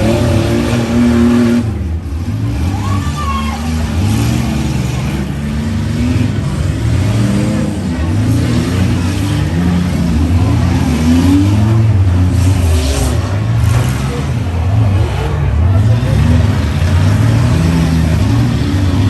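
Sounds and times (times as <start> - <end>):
engines revving hard: 0.0 - 19.0.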